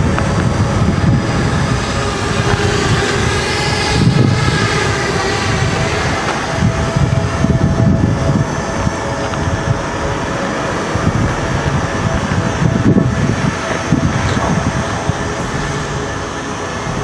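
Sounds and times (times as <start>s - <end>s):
drone propellers humming: 0.0s - 17.0s
wind rumbling on microphone: 0.0s - 17.0s.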